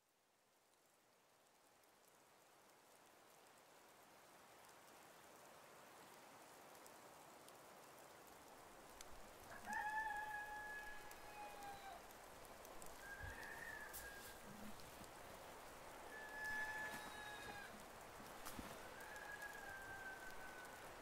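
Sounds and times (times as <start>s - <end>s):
soft steady hiss: 0.0s - 21.0s
light dripping ticks: 0.3s - 21.0s.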